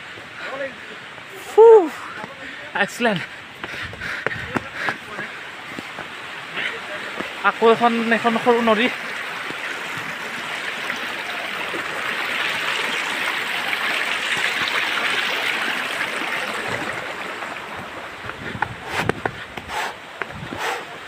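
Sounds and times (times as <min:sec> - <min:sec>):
stream rushing over stones: 0:00.0 - 0:21.0.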